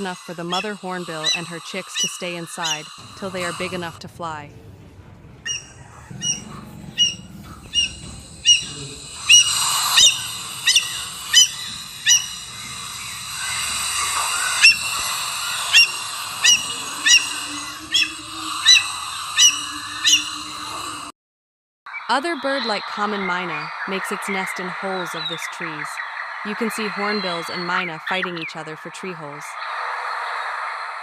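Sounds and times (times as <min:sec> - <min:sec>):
background birdsong: 0:00.0 - 0:21.1, 0:21.9 - 0:31.0
hornbills calling: 0:00.0 - 0:21.1, 0:21.9 - 0:30.7.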